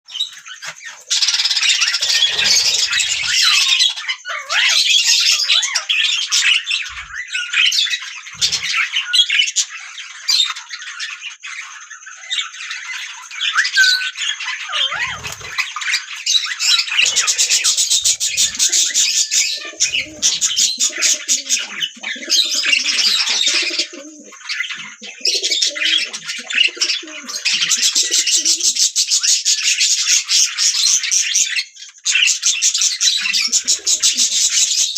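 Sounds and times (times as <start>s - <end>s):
budgerigars chirping and warbling: 0.1s - 34.9s.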